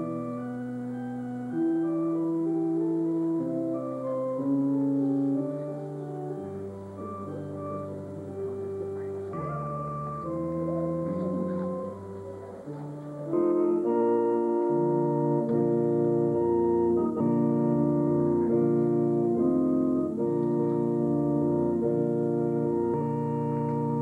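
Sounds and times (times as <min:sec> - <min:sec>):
organ chords: 0:00.0 - 0:24.0.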